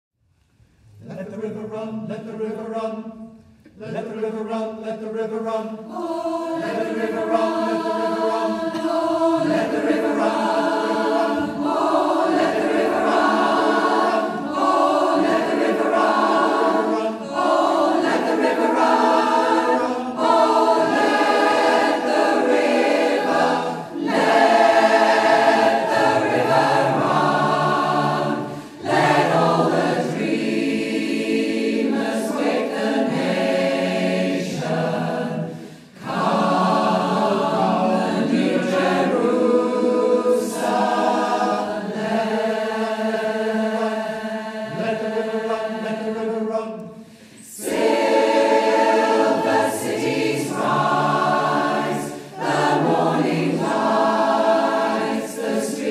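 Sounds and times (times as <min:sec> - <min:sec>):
choir singing in harmony: 0:03.9 - 0:55.9.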